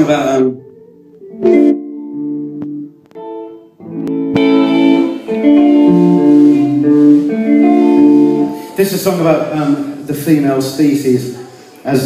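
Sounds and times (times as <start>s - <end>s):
electric guitar chords: 0.0s - 10.3s.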